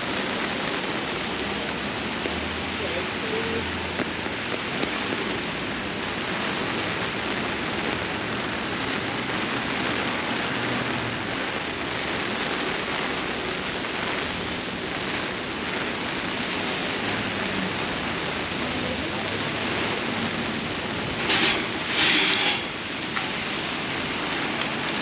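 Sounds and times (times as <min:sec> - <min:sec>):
heavy rain on an umbrella: 0:00.0 - 0:25.0
rain on wet pavement: 0:00.0 - 0:25.0.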